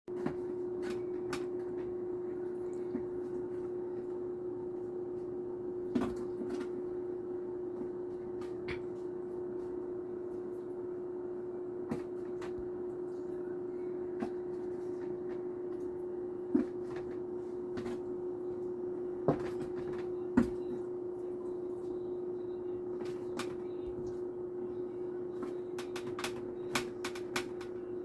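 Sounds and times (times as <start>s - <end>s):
electrical hum: 0.1s - 28.0s.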